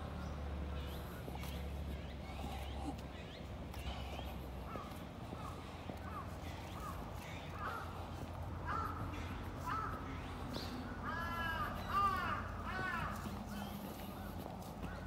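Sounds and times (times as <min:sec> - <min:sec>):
crows cawing: 0:02.3 - 0:15.0.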